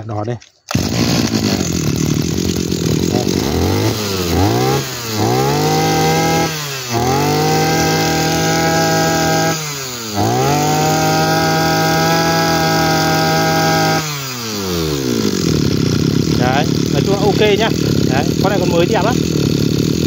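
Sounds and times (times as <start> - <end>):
brush cutter engine revving: 0.7 - 20.0.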